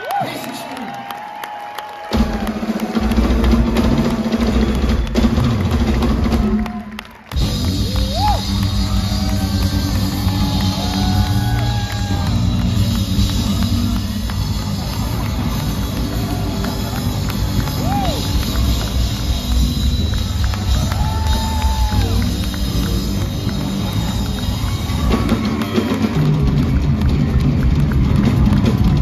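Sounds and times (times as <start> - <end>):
live rock band playing: 2.1 - 29.0.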